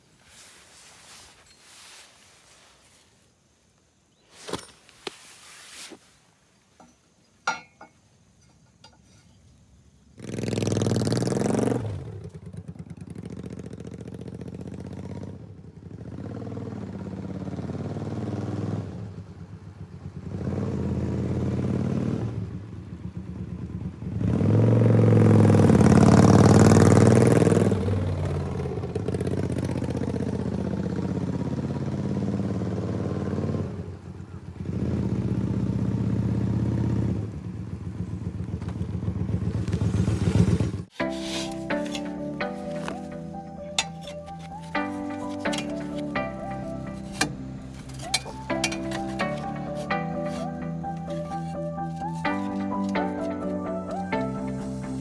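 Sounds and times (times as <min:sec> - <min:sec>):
motorcycle engine revving: 0:10.2 - 0:55.0.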